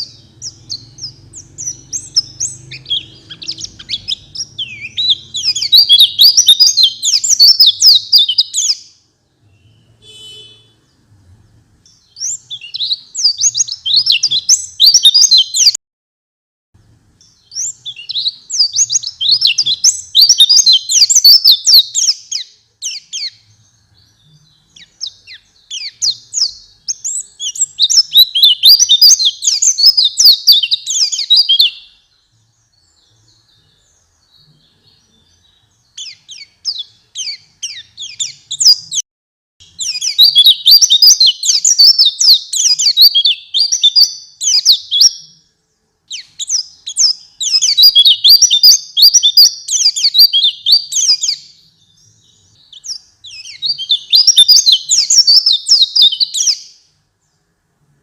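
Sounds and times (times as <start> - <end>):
bird twittering chirps: 0.0 - 15.8, 17.2 - 39.0, 39.6 - 57.6.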